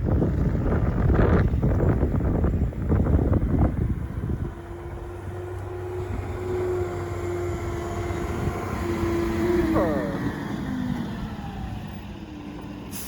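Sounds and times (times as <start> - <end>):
wind buffeting microphone: 0.0 - 12.5
loader diesel engine running: 0.0 - 13.0.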